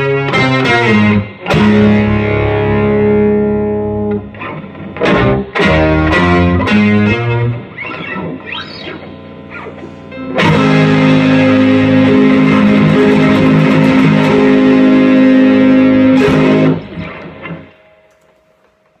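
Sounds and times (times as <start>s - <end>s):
electric guitar through amplifier: 0.0s - 19.0s.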